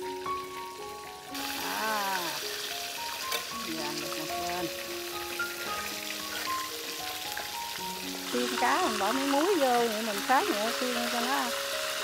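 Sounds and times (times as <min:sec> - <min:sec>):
background music: 0:00.0 - 0:12.0
fish sizzling in oil: 0:00.0 - 0:12.0.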